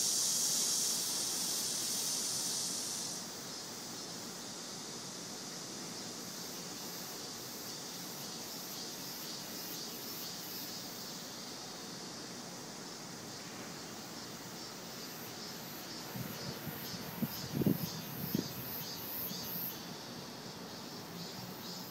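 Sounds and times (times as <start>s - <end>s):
cicadas buzzing: 0.0s - 21.9s.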